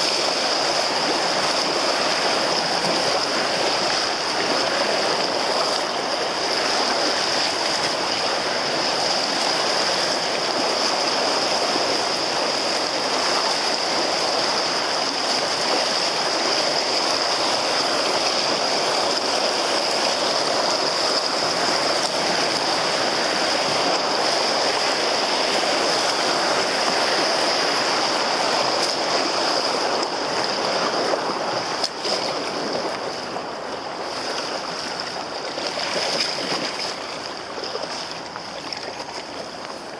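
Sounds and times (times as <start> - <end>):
river water rushing around canoe: 0.0 - 39.9.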